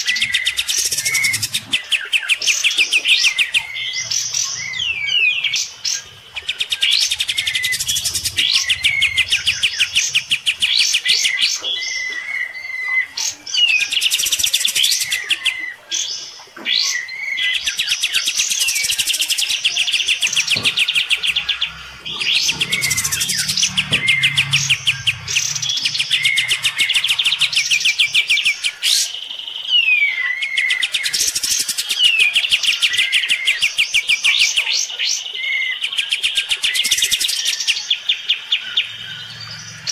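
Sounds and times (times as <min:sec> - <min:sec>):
songbird trilling and whistling: 0:00.0 - 0:39.9.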